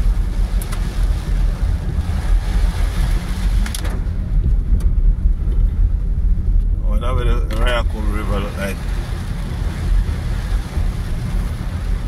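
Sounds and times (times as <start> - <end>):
car rumble: 0.0 - 12.0
rain hissing on windshield: 0.0 - 12.0.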